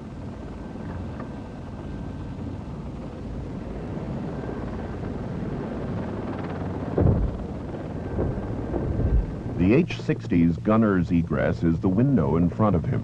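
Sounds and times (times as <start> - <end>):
helicopter rumble: 0.0 - 13.0.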